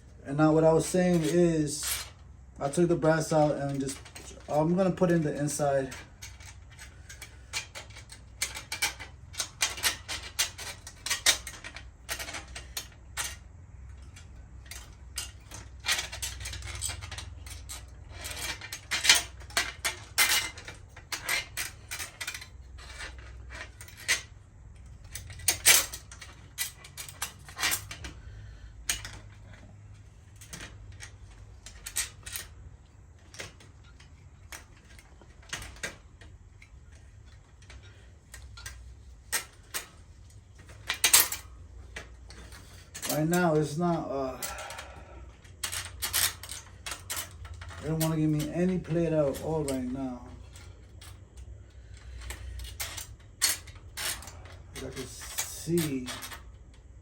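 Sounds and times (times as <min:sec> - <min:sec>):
metal parts and tools clinking: 0:00.4 - 0:57.0.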